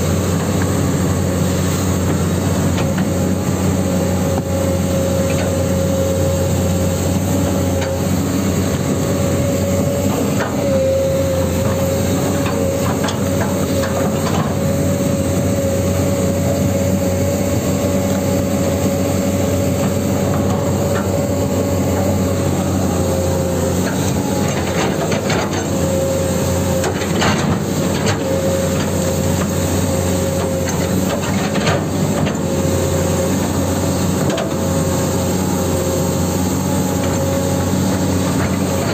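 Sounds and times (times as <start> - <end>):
hydraulic pump whine: 0.0 - 38.9.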